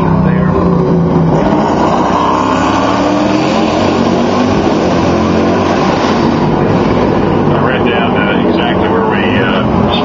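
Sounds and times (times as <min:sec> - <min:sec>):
race car engines accelerating: 0:00.0 - 0:10.0.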